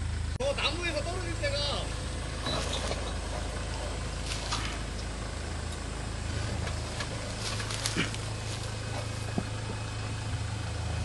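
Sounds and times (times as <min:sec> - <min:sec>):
car engine running low: 0:00.0 - 0:11.0.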